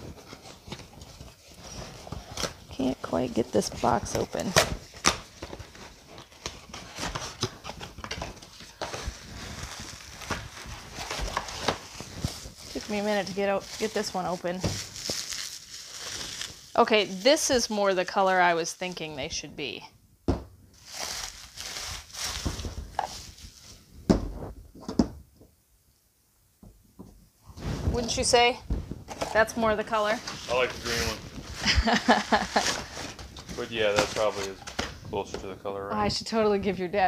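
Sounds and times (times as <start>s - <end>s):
cardboard and paper rustling: 0.0s - 17.8s, 20.8s - 25.0s, 27.6s - 35.6s.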